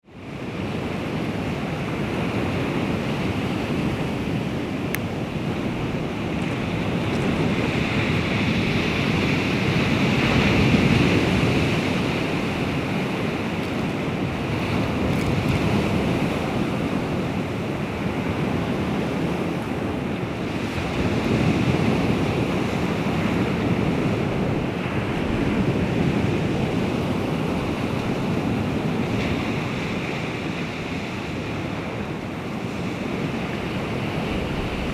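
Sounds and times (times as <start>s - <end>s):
waves washing onto shore: 0.1s - 34.9s.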